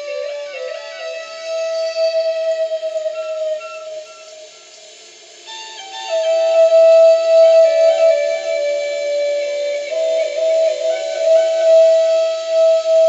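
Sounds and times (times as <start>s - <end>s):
flute playing slow melody: 0.0s - 13.0s
soft background music: 0.0s - 13.0s.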